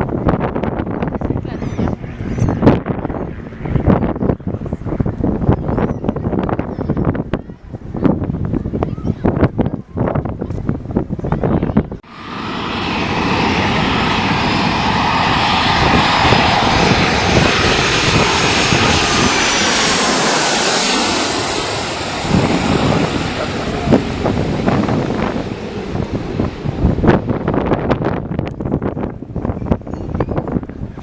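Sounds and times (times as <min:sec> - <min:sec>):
aircraft flying past: 0:00.0 - 0:06.3, 0:12.0 - 0:31.0
wind buffeting microphone: 0:00.0 - 0:31.0.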